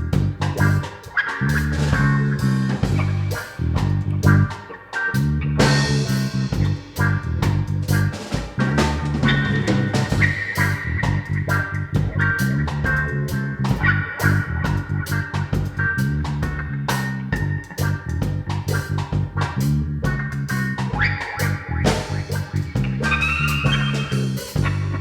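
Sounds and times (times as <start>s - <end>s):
bass guitar: 0.0s - 25.0s
drums: 0.0s - 25.0s
electric guitar: 0.0s - 25.0s.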